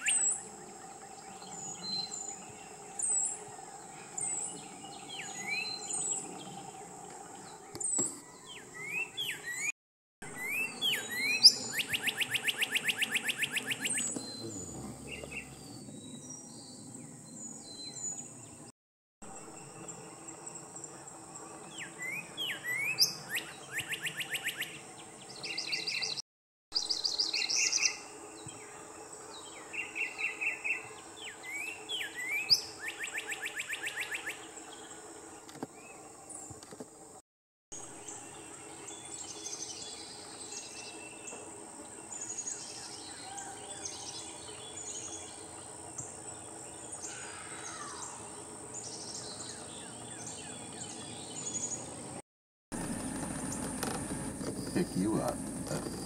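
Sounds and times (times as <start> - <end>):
songbird calling and trilling: 0.0 - 18.6, 19.8 - 26.2, 26.8 - 35.1, 38.0 - 52.0.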